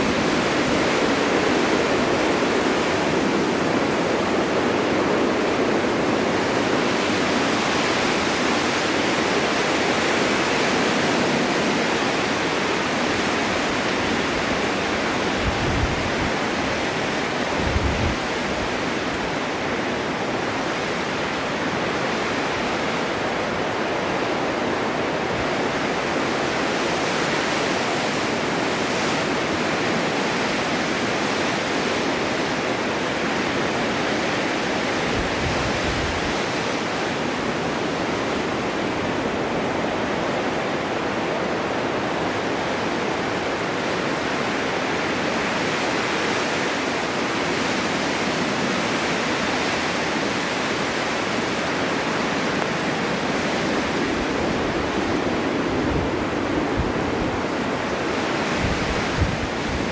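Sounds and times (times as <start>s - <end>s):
wind blowing: 0.0s - 59.9s.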